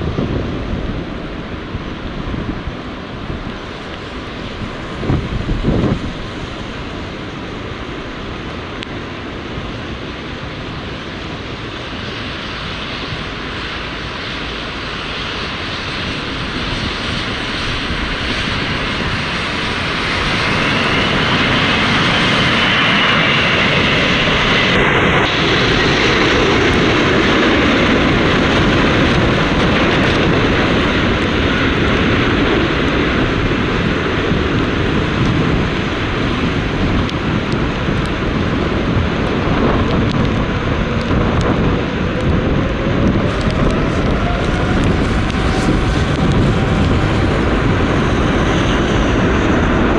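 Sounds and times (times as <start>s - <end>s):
high jet engine whine: 0.0s - 49.9s
jet airliner engine noise: 0.0s - 49.9s.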